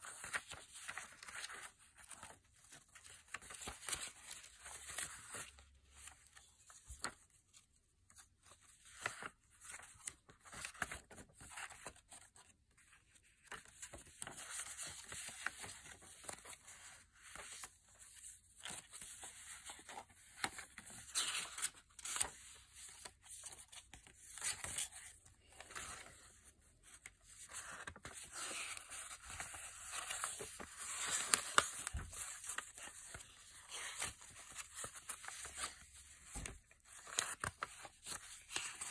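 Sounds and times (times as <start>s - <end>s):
paper rustling and crinkling: 0.0s - 38.9s.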